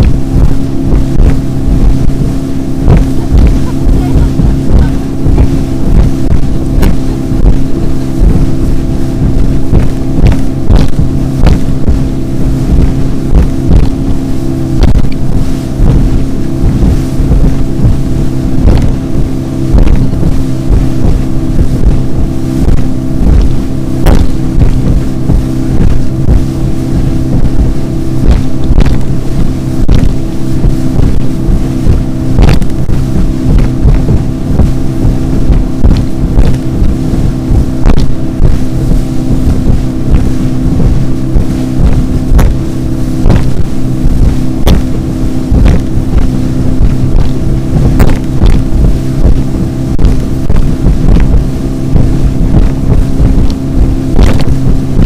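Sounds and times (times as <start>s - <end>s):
hull slapping on waves: 0.0s - 55.0s
motorboat engine: 0.0s - 55.0s
wind rushing over microphone: 0.0s - 55.0s.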